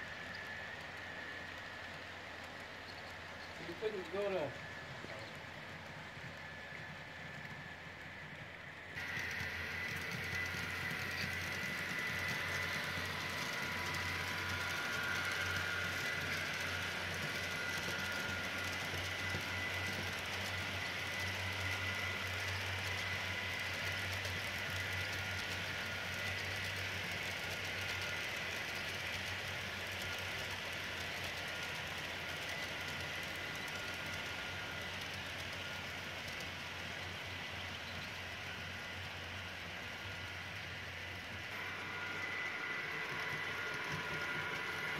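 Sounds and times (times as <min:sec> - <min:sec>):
high whine and hiss: 0:00.0 - 0:44.9
model train rumbling on track: 0:00.0 - 0:44.9.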